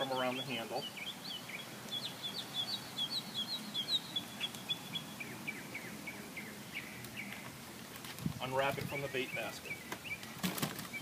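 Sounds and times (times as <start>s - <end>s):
bird high chirps: 0.0s - 7.5s, 8.6s - 11.0s.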